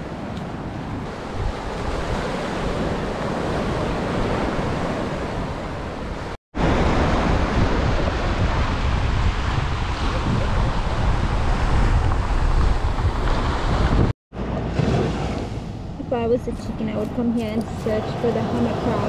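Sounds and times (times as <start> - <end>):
surf breaking on shore: 0.0 - 15.8
wind buffeting microphone: 0.0 - 19.0.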